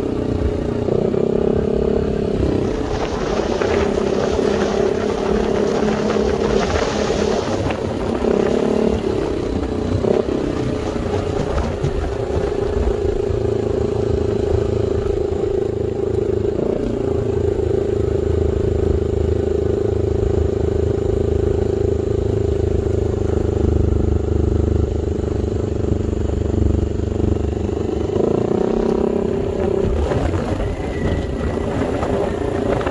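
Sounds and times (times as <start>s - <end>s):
scooter engine revving: 0.0s - 32.9s.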